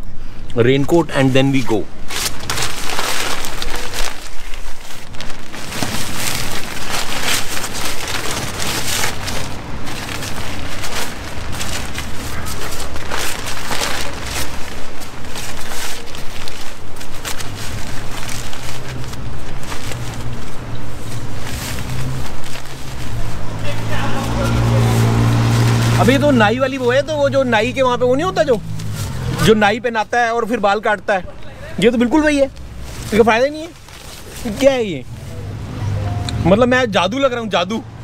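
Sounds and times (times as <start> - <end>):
plastic poncho crinkling: 1.5 - 35.7.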